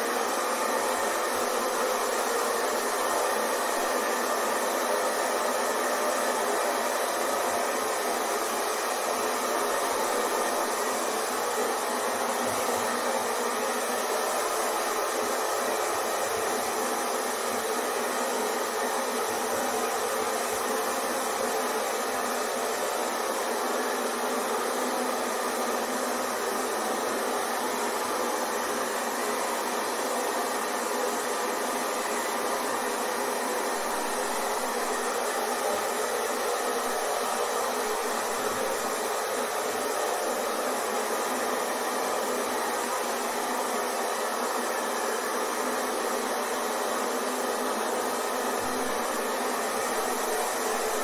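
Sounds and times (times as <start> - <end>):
hair dryer blowing: 0.0 - 51.0.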